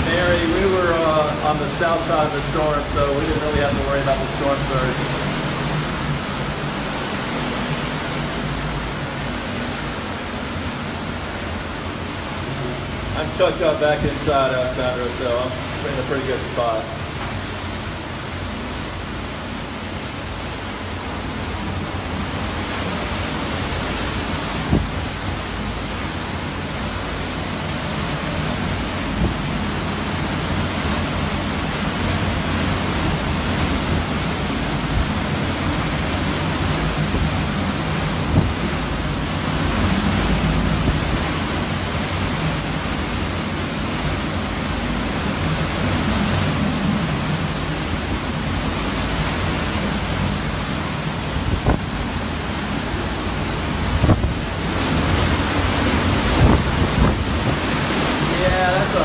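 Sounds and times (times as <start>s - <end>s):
driving rain: 0.0s - 59.0s
strong wind gusting: 0.0s - 59.0s.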